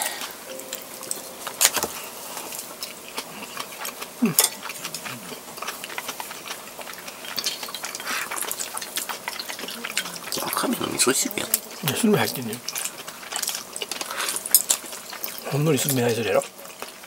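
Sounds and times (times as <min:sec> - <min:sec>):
sipping soup: 0:00.0 - 0:15.8
chewing: 0:00.1 - 0:17.0.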